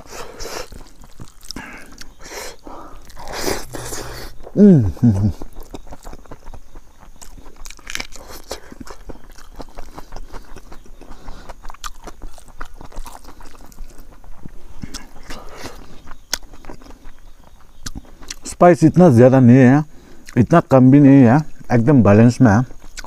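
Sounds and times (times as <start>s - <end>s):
wet chewing with crunches: 0.0s - 18.5s, 22.8s - 23.0s.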